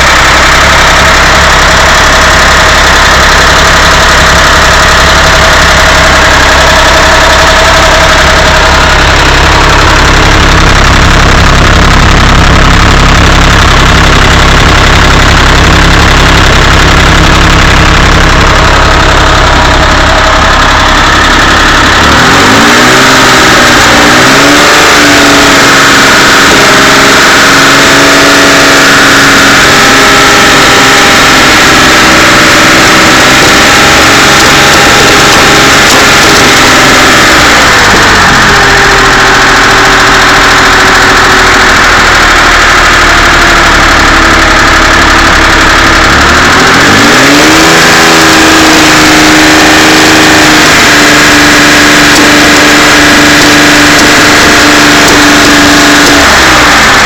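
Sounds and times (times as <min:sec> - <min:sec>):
car engine running: 0:00.0 - 0:57.0
engine knocking and rattling: 0:00.0 - 0:57.0.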